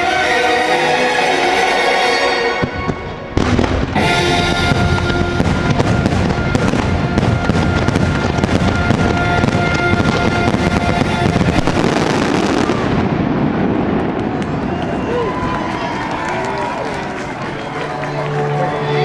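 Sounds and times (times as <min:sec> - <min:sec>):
orchestral music: 0:00.0 - 0:13.0, 0:16.2 - 0:19.0
fireworks bangs and crackles: 0:02.6 - 0:18.7.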